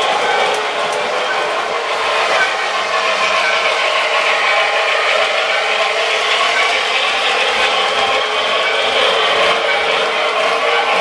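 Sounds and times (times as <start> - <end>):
model trains rattling on rails: 0.0 - 11.0.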